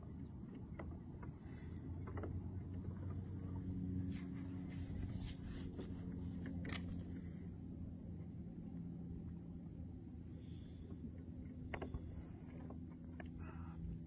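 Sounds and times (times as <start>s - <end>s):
low steady hum: 0.0s - 14.0s
water lapping and dripping: 0.0s - 14.0s.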